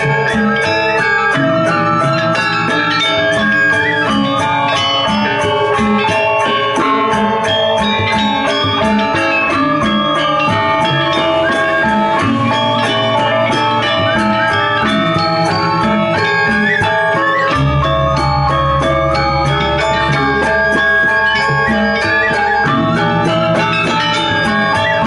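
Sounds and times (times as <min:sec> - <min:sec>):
gamelan playing: 0:00.0 - 0:25.0.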